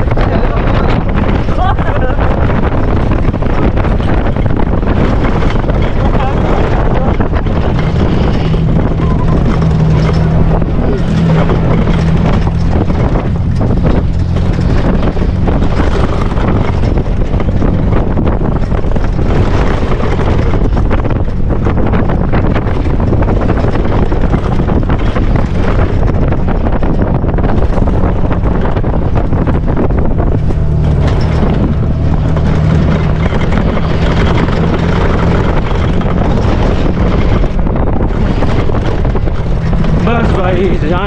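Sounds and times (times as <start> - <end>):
car engine running: 0.0 - 41.0
wind buffeting microphone: 0.0 - 41.0.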